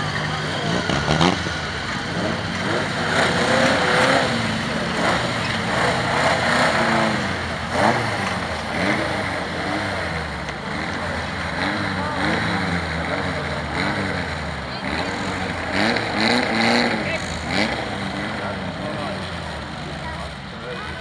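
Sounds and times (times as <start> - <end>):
car engines revving on gravel: 0.0 - 21.0.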